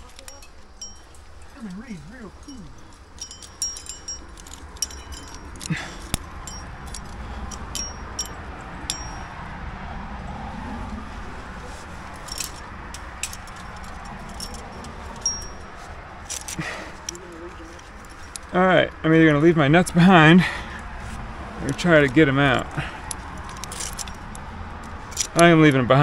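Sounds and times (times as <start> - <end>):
metal carabiners clinking: 0.0 - 9.6, 11.1 - 20.8, 21.6 - 26.0.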